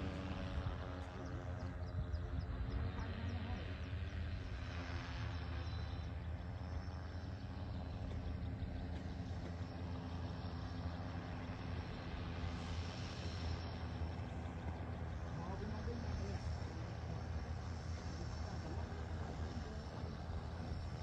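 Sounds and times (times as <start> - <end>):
drone rotors humming: 0.0 - 21.0.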